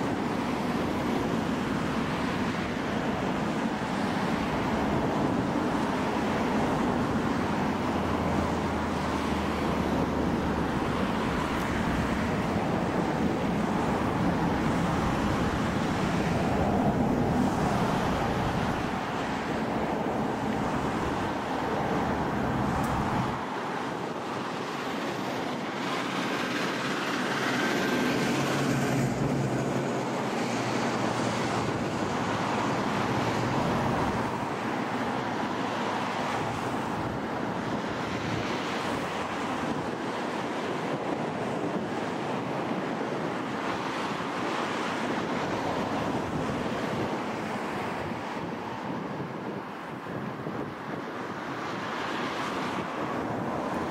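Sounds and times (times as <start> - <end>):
jet engines rumbling: 0.0 - 53.9
wind noise on microphone: 0.0 - 53.9.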